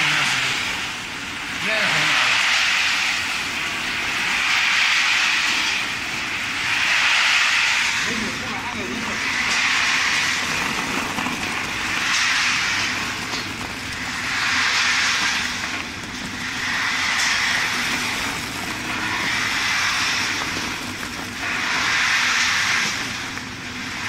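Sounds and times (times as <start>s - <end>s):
machinery rushing noise: 0.0s - 24.0s.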